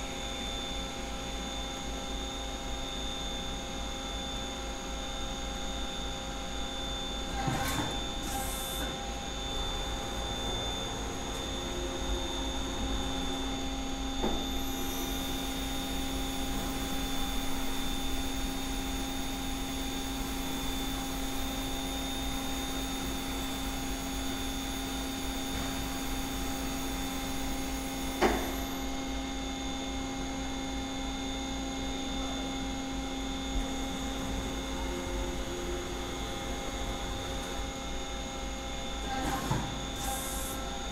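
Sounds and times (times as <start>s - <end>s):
lathe machine hum: 5.9s - 29.7s, 30.6s - 40.9s.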